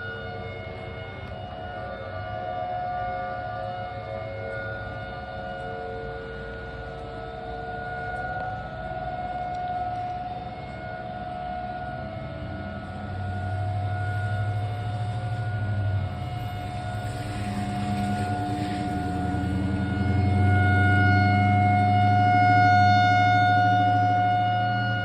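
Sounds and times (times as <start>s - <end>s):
tornado warning siren: 0.0s - 25.0s.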